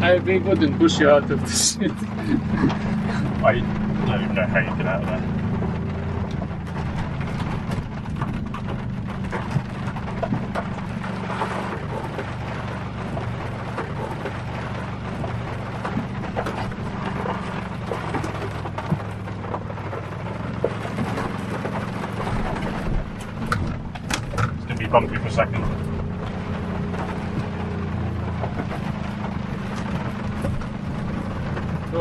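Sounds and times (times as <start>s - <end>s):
rain pattering on a truck: 0.0s - 32.0s
truck engine running: 0.0s - 32.0s.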